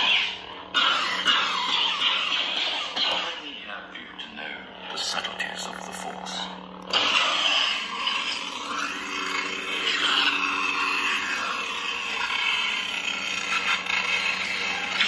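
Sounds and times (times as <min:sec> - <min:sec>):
lightsaber hum: 0:00.0 - 0:15.0.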